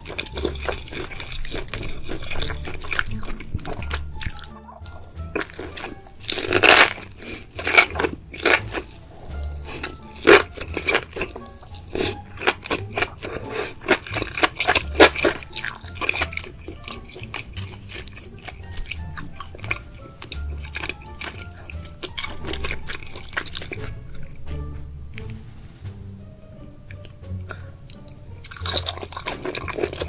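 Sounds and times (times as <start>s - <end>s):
crunchy chewing: 0.0s - 25.4s, 26.9s - 30.0s.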